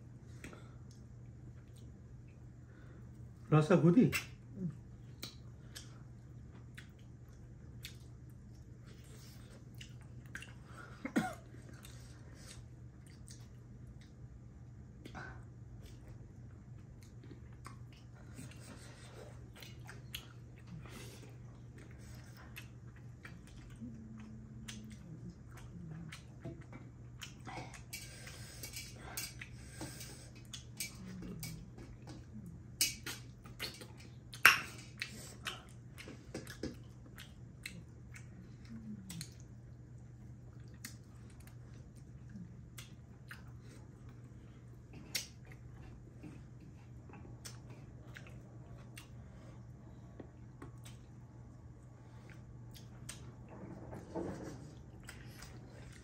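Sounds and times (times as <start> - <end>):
low hum: 0.0 - 56.0
chewing and lip smacking: 0.3 - 2.5, 4.1 - 10.9, 11.5 - 14.2, 15.0 - 56.0.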